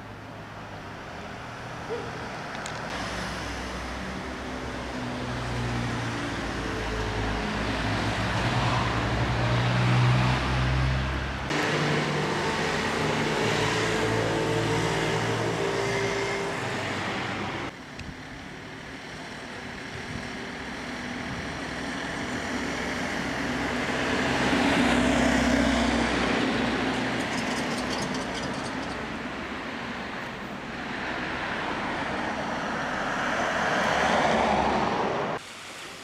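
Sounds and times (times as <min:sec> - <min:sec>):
passing vehicles: 0:00.0 - 0:35.4.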